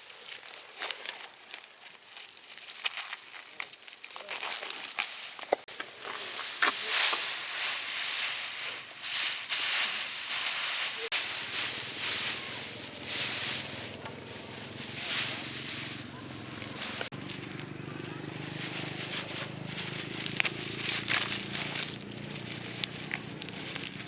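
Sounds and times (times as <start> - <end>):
dry straw rustling and crackling: 0.0 - 24.0.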